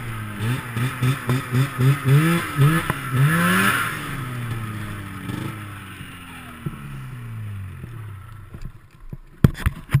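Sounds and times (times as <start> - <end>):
snowmobile engine winding down: 0.0 - 8.6.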